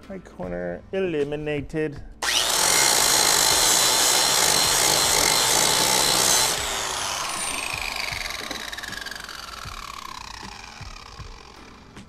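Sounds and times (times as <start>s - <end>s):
angle grinder grinding wood: 2.2s - 12.0s.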